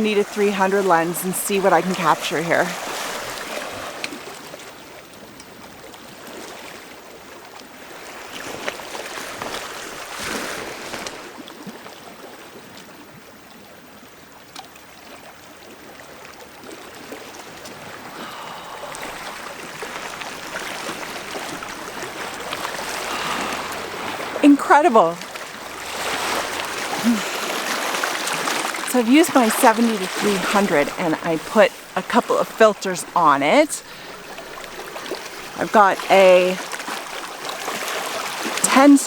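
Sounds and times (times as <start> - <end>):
lake waves lapping at shore: 0.0 - 39.0.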